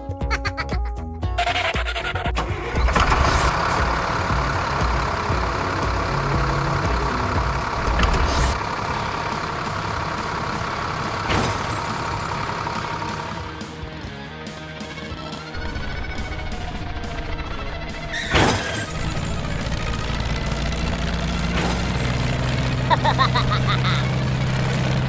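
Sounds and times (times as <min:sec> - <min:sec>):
large vehicle engine running: 0:02.1 - 0:25.0.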